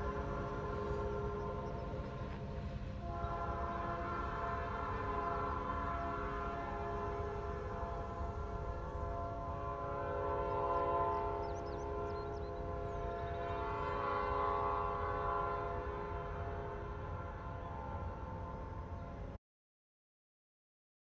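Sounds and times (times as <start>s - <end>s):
distant train air horn: 0.0s - 19.4s.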